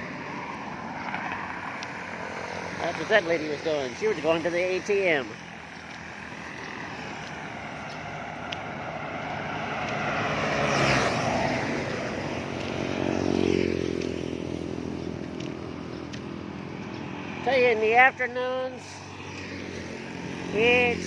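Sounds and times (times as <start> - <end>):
engine passing by: 0.0 - 21.0
vehicle rushing past: 0.0 - 21.0.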